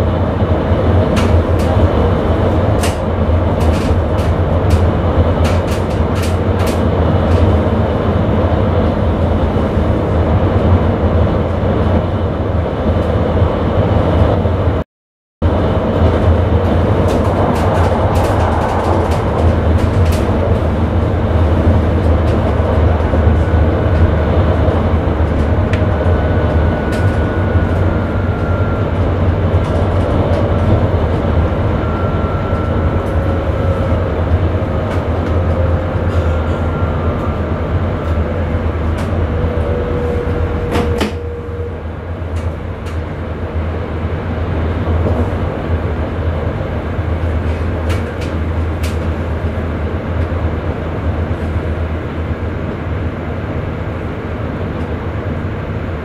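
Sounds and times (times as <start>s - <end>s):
train running rumble: 0.0s - 14.8s, 15.4s - 56.0s.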